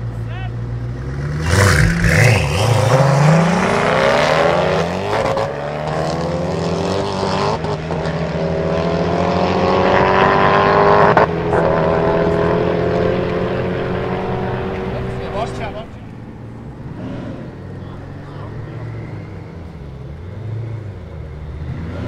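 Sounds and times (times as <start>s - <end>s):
sports car engines accelerating hard: 0.0s - 22.0s.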